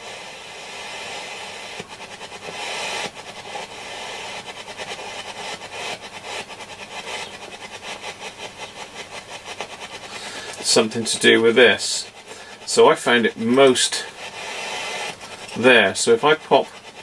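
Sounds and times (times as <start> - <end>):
radio hiss: 0.0 - 17.0
rapid irregular pulsing: 0.0 - 17.0.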